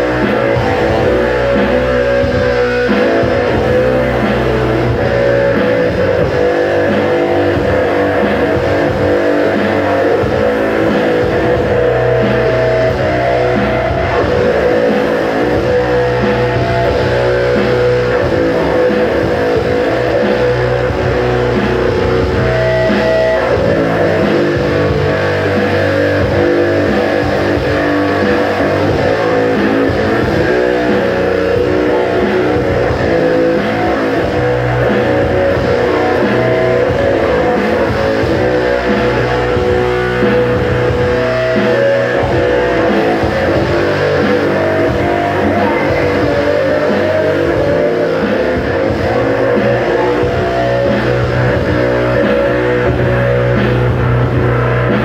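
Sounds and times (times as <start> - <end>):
electric guitar rock music: 0.0 - 55.0.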